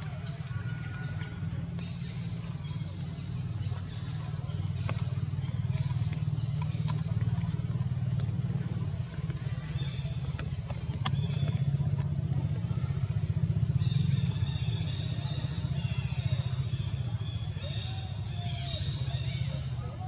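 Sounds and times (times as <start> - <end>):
low motor drone: 0.0 - 20.0.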